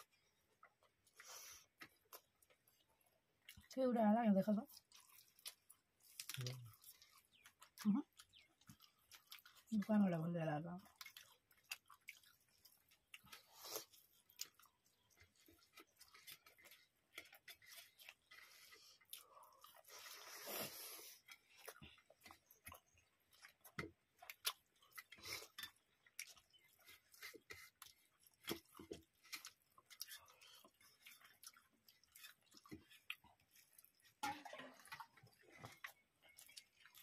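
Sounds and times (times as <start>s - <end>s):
person chewing: 0.0s - 3.8s, 4.7s - 9.9s, 10.8s - 37.0s.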